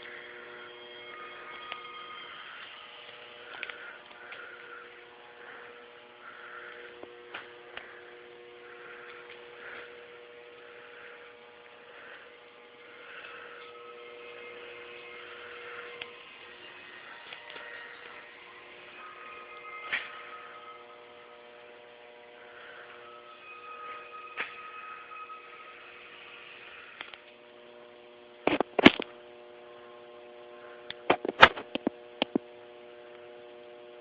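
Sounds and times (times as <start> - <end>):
electrical hum: 0.0 - 34.0
faint pulsing buzz: 0.0 - 34.0.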